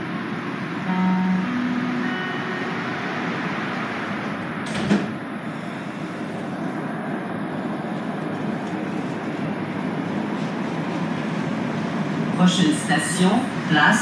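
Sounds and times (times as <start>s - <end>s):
train rolling and traction noise: 0.0s - 14.0s.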